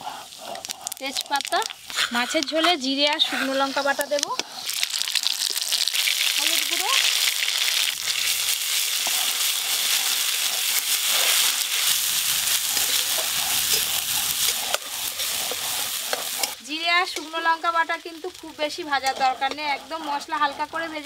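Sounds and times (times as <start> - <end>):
paste sizzling in hot oil: 0.0 - 21.0
spatula stirring: 0.0 - 21.0.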